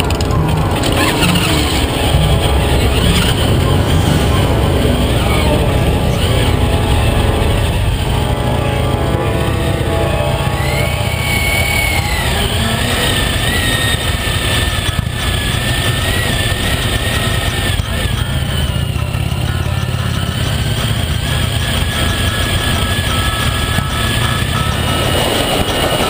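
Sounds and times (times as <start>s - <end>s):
motorcycle engine running: 0.0s - 26.0s
thin whine: 0.0s - 26.0s
wind and road noise: 0.0s - 26.0s.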